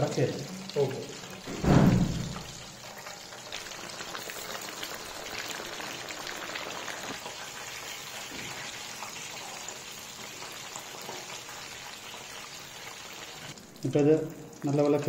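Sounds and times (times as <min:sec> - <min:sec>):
chicken deep-frying in hot oil: 0:00.0 - 0:15.0.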